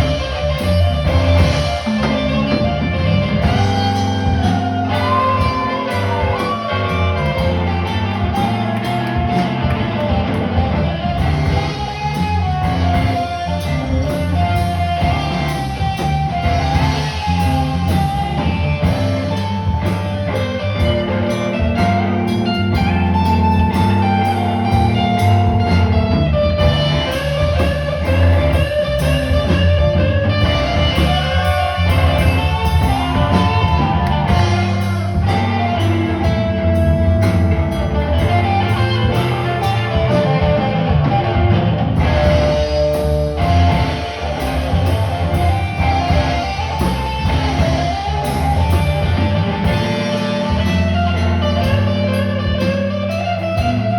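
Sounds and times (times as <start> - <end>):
live guitar music: 0.0 - 53.9.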